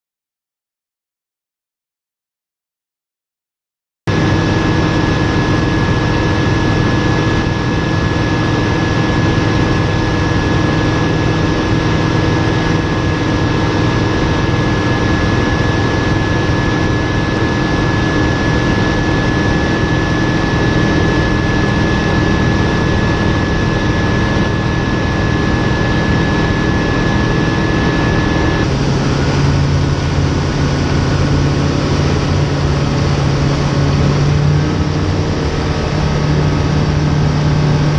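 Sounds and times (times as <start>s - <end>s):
aircraft piston engine: 4.1s - 37.9s
high whine: 4.1s - 37.9s.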